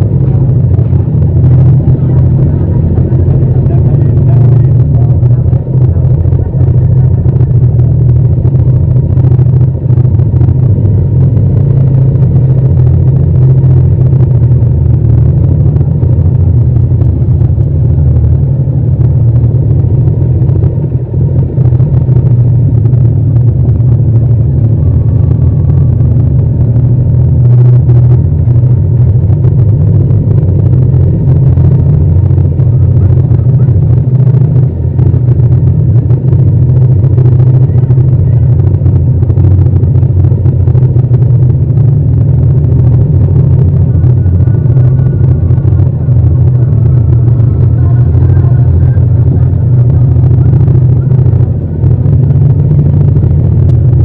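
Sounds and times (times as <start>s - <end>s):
motorcycle engine running steadily: 0.0s - 54.0s.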